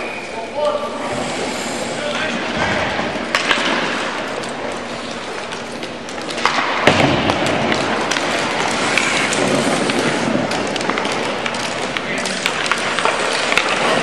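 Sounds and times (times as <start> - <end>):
skates scraping on ice: 0.0 - 14.0
sticks and puck clacking: 0.0 - 14.0.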